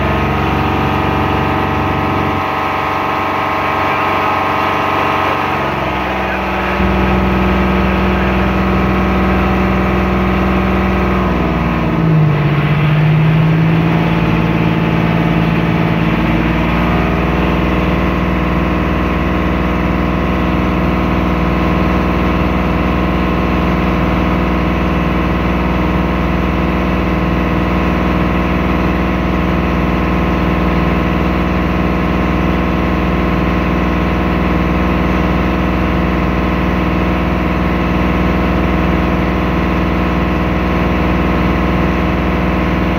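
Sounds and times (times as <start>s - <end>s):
motorboat engine running: 0.0s - 42.9s.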